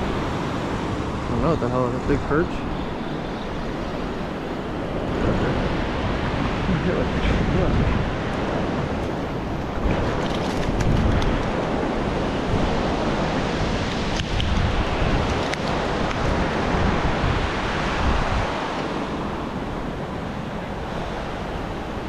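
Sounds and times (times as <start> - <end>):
surf washing over sandy beach: 0.0 - 22.0
wind noise on microphone: 2.9 - 22.0.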